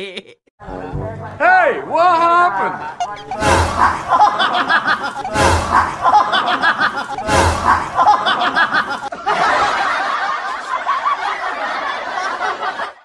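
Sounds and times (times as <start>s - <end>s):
laugh track: 0.0s - 0.5s, 2.6s - 13.0s.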